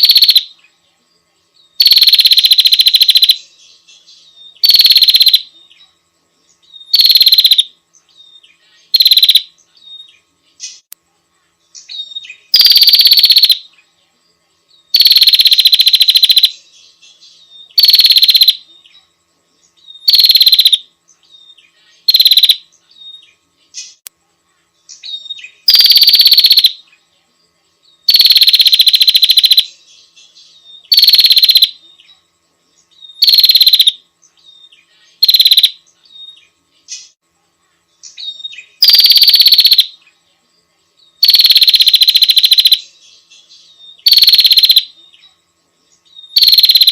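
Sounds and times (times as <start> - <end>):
bird buzzing trills: 0.0 - 46.9.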